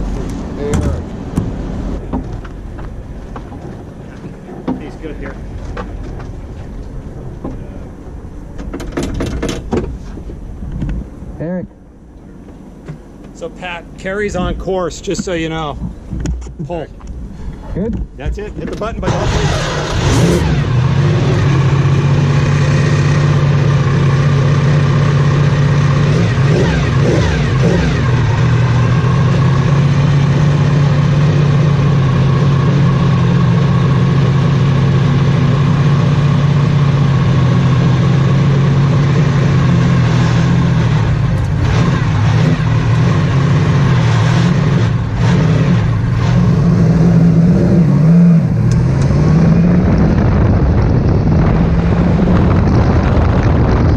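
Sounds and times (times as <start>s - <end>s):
race car engine idling: 0.0s - 16.3s, 16.9s - 44.3s.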